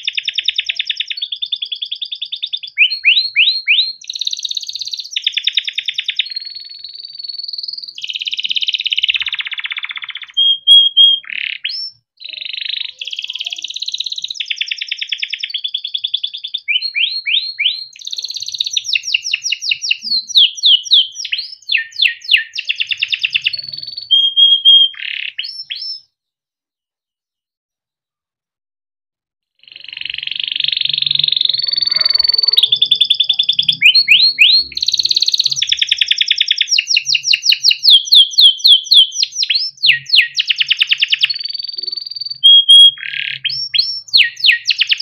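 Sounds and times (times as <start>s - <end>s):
canary singing trills: 0.0s - 26.1s, 29.6s - 45.0s.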